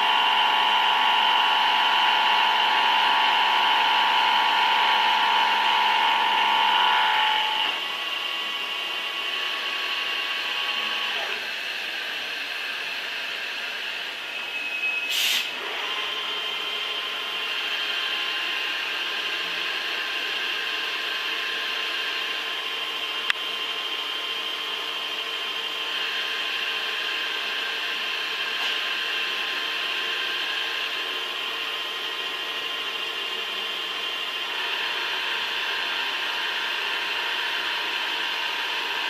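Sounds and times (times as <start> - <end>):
machine tool high whine: 0.0 - 39.0.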